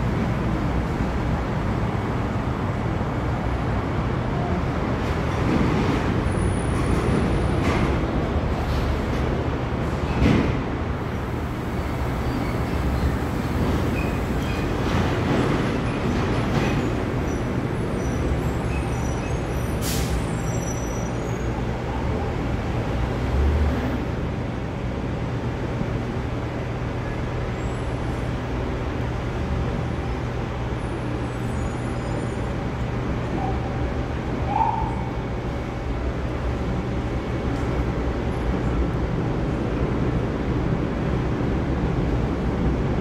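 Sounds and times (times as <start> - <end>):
city road traffic: 0.0 - 43.0.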